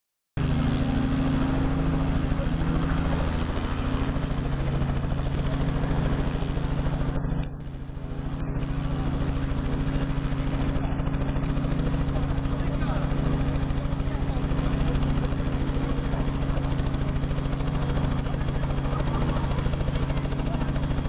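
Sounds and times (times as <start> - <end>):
helicopter rotor chop: 0.4 - 21.0
low engine drone: 0.4 - 21.0.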